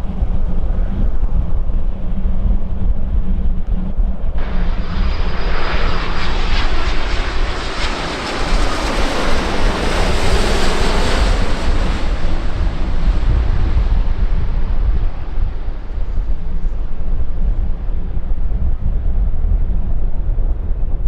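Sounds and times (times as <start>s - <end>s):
thin high engine whine: 0.0s - 18.1s
airliner engines passing: 0.0s - 21.0s
wind rumbling on microphone: 0.0s - 21.0s.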